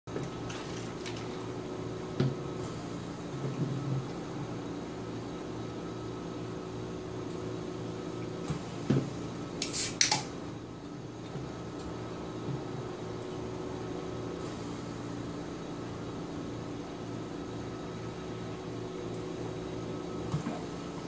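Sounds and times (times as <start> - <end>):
fan humming: 0.1 - 21.0.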